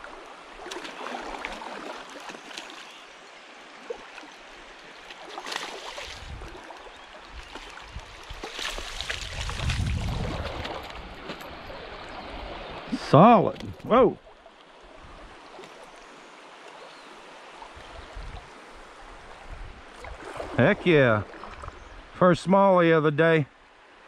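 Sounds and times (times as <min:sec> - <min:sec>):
creek water trickling over rocks: 0:00.0 - 0:22.2.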